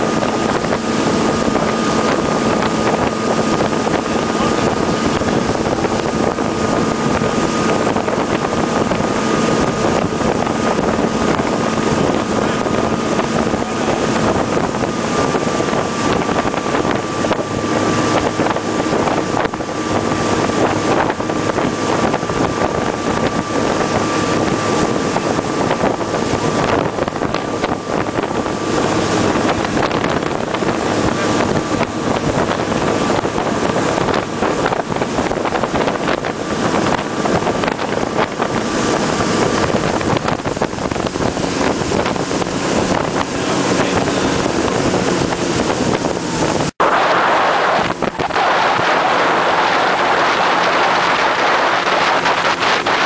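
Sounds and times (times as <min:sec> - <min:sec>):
boat engine running: 0:00.0 - 0:53.0
wind buffeting microphone: 0:00.0 - 0:53.0.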